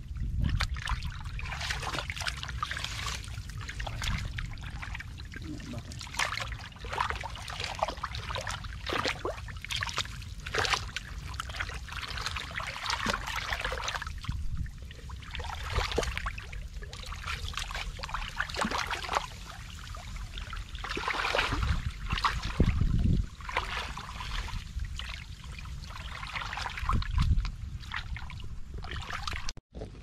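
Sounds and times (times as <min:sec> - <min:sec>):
low steady rumble: 0:00.0 - 0:30.0
sloshing through thick mud: 0:00.3 - 0:30.0
wet splashes: 0:00.4 - 0:29.9.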